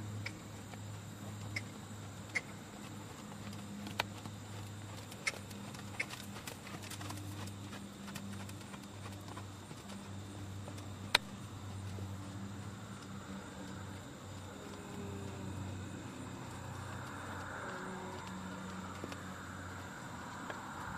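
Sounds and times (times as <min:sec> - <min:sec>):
steady low hum: 0:00.0 - 0:20.9
hoofbeats on sand: 0:00.6 - 0:20.9.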